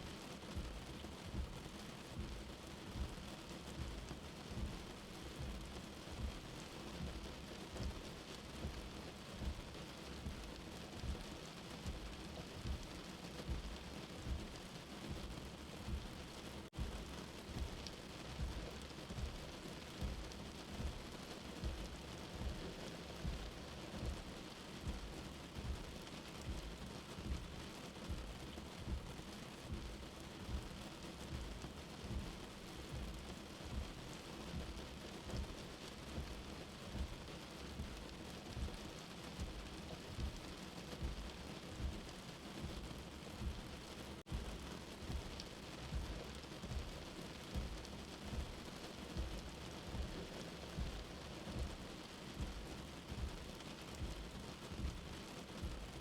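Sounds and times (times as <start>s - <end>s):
steady rain: 0.0s - 56.0s
low heartbeat thumping: 0.5s - 56.0s.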